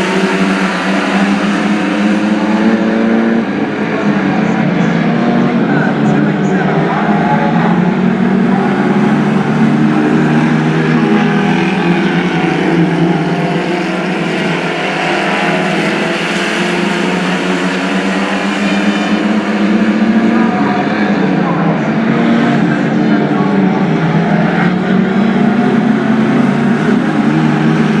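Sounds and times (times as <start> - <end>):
racing car engines droning: 0.0 - 28.0.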